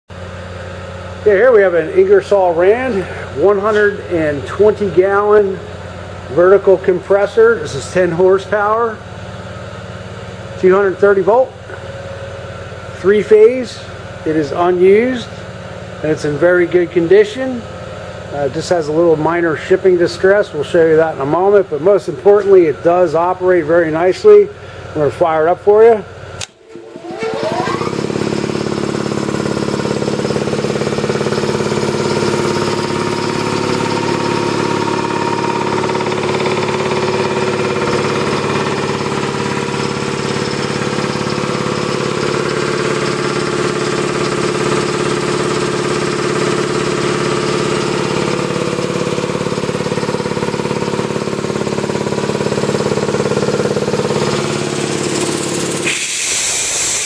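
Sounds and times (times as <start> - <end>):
electric air compressor running: 0.1 - 57.0.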